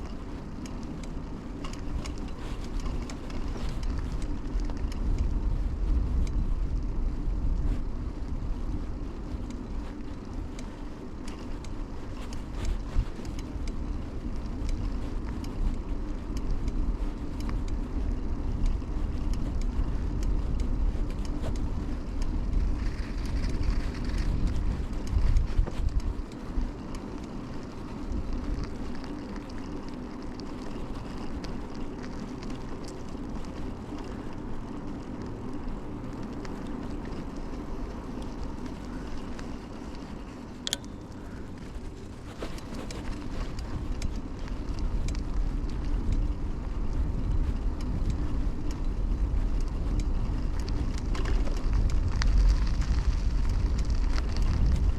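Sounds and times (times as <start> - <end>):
wind rush: 0.0 - 29.6, 30.2 - 54.9
bike clicks and rattles: 0.0 - 54.9
bike tyres on pavement: 0.0 - 54.9.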